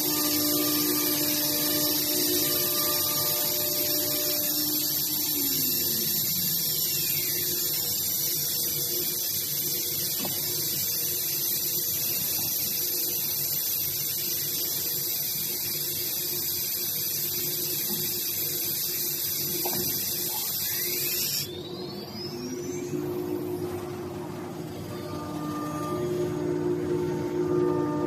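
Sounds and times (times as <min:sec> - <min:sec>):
cnc machine hissing and humming: 0:00.0 - 0:28.0.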